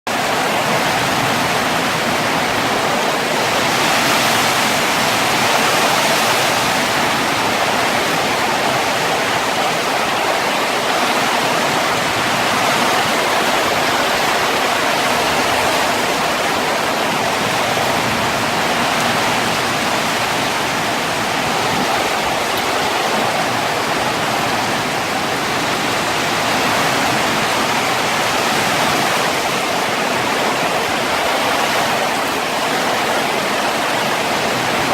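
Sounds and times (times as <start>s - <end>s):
heavy rain pouring: 0.1s - 34.9s
strong wind: 0.1s - 34.9s.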